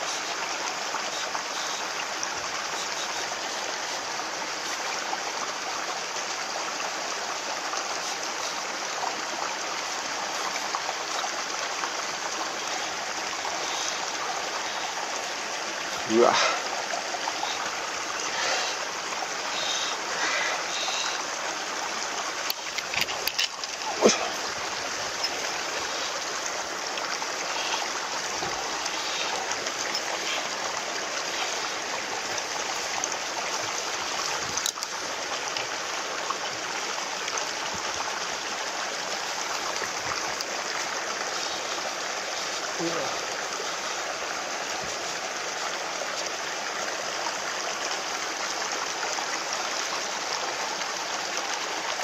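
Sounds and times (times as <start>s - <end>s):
flowing water rushing: 0.0s - 52.0s.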